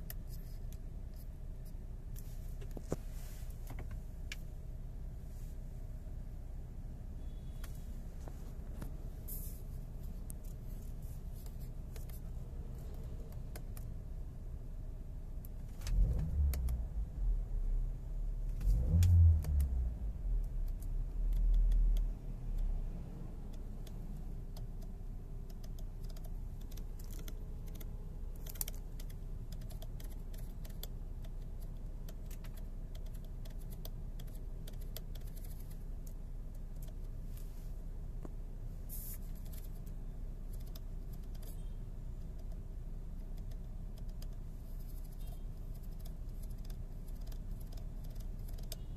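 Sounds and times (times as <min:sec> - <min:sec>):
low hum inside car cabin: 0:00.0 - 0:48.9.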